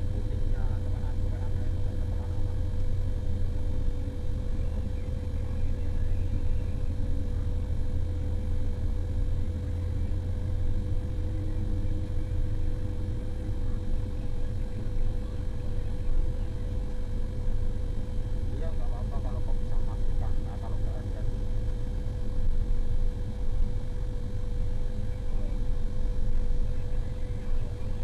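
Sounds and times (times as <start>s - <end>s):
diesel engine droning under load: 0.0s - 28.0s
steady engine whine: 0.0s - 28.0s.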